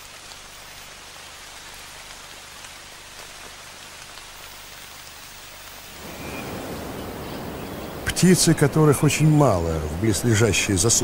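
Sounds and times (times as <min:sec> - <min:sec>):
rain hissing on leaves: 0:00.0 - 0:11.0.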